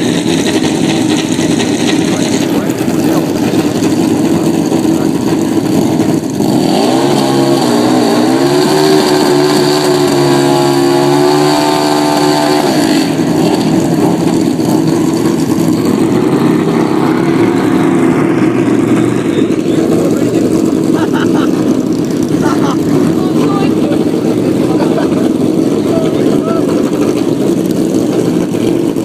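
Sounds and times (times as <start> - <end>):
motorcycle engines revving loudly: 0.0 - 29.0.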